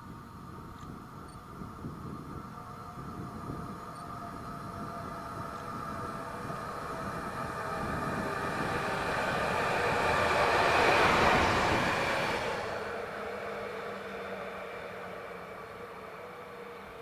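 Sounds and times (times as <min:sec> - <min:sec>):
steady whine: 0:00.0 - 0:17.0
train passing on tracks: 0:00.0 - 0:17.0.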